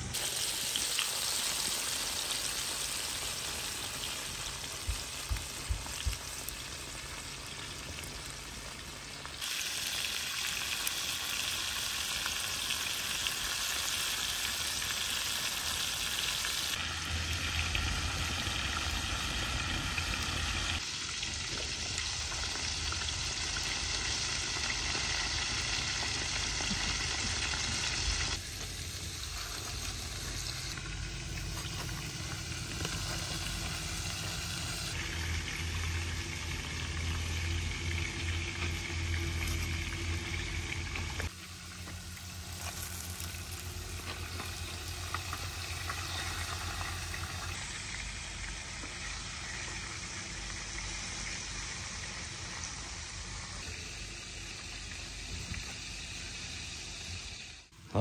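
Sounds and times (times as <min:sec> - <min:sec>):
oil sizzling while deep-frying: 0:00.0 - 0:57.8.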